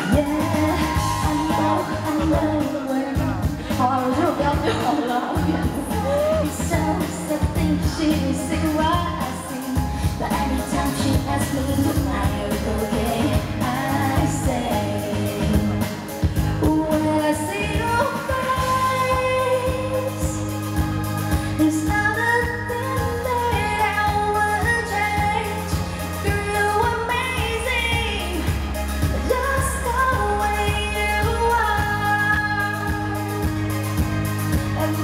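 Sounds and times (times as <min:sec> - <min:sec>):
live pop band: 0:00.0 - 0:35.0
low bass line: 0:00.0 - 0:35.0
woman singing: 0:00.0 - 0:35.0.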